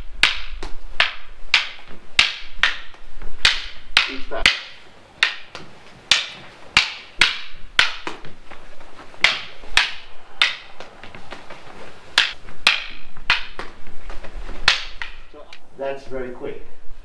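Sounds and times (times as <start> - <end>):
sticks striking with sharp cracks: 0.0 - 15.6.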